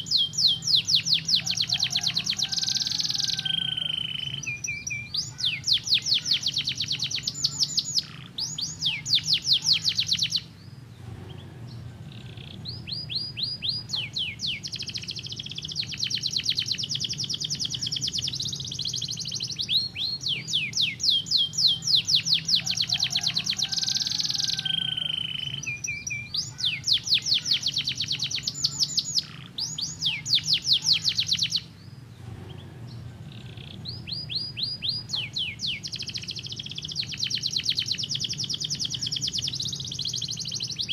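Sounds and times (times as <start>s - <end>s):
canary singing trills: 0.0s - 40.9s
steady low hum: 3.6s - 23.6s, 24.8s - 40.9s.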